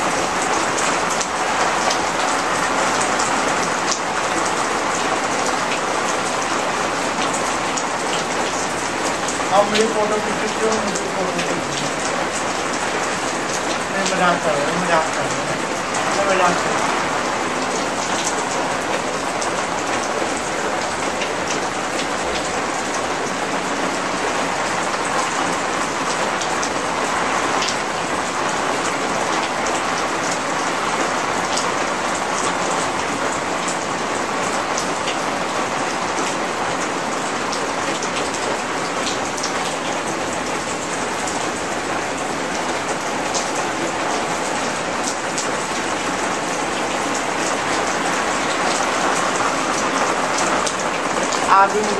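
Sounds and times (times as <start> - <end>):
heavy rain on concrete: 0.0 - 51.9.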